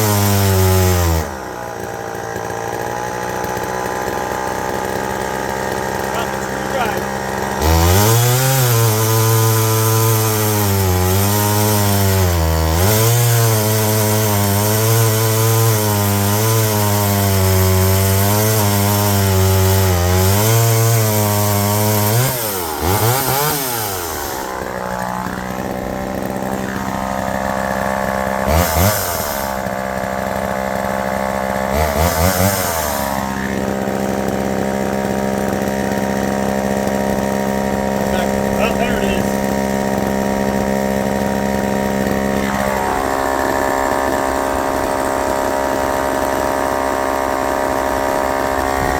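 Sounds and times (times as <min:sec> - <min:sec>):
chainsaw running: 0:00.0 - 0:48.9.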